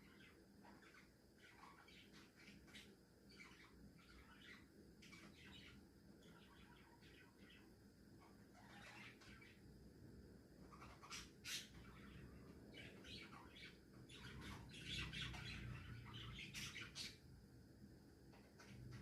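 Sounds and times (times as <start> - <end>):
budgerigars chirping and squawking: 0.0 - 9.6, 10.6 - 17.2, 18.4 - 19.0.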